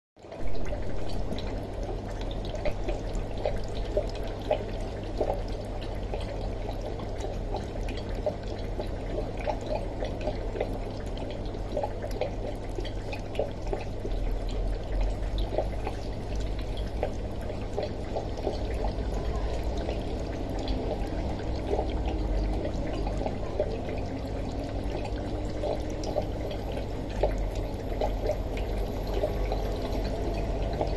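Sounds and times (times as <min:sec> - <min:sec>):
water trickling and bubbling: 0:00.2 - 0:30.9.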